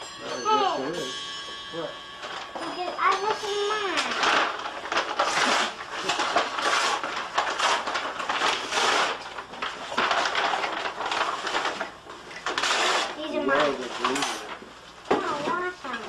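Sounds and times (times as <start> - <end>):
rustling and handling noise: 0.0 - 16.0.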